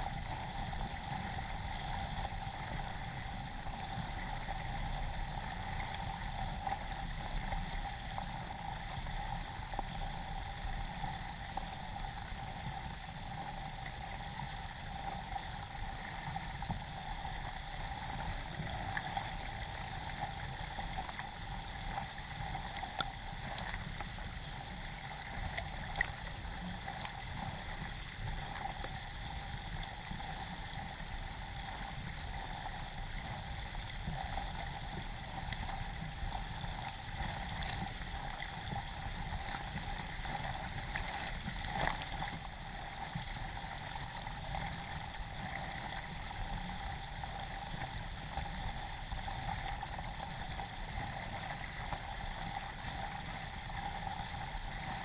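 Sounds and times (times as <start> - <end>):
water rushing along kayak hull: 0.0 - 55.0.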